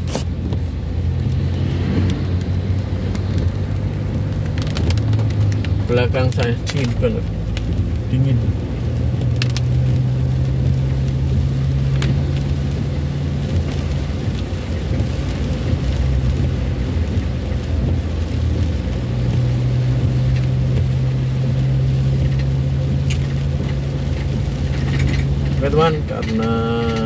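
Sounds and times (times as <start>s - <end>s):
engine and tyre drone: 0.0s - 27.0s
rain on vehicle body: 0.0s - 27.0s.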